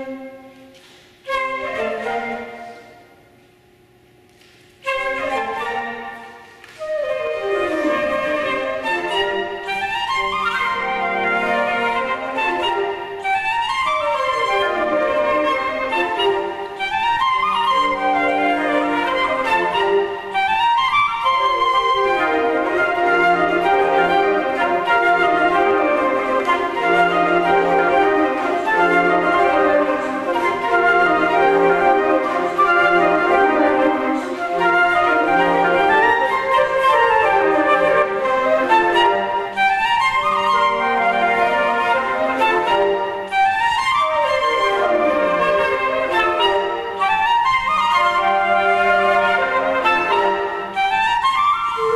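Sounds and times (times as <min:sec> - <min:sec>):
flute ensemble playing: 0:00.0 - 0:03.4, 0:04.3 - 0:51.9.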